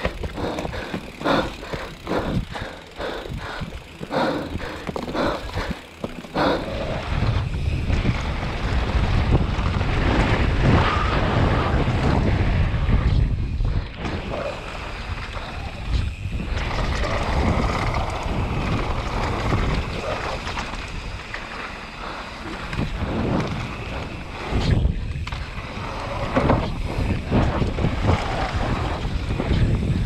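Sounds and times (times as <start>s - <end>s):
wind buffeting microphone: 0.0s - 21.4s, 22.0s - 30.0s
bike tyres rolling on gravel: 0.0s - 30.0s.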